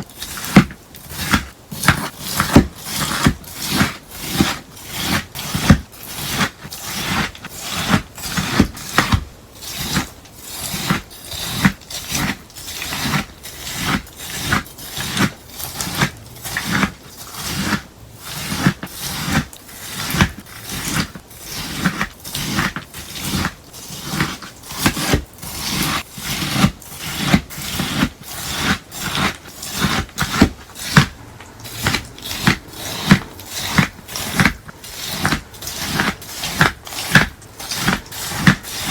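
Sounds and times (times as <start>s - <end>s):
slime and sponge crunching: 0.0s - 38.9s.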